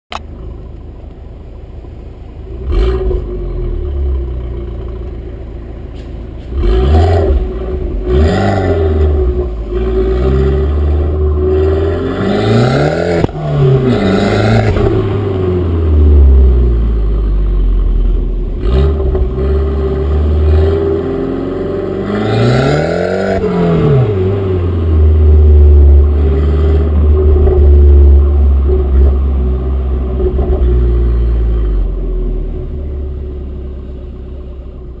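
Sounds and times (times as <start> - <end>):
car engine revving: 2.1 - 35.0.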